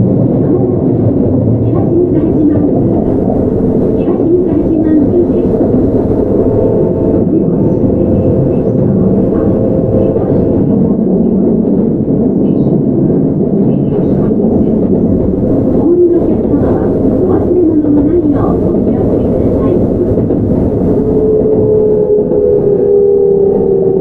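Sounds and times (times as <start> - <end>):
wheels rumbling on rail: 0.0 - 24.0.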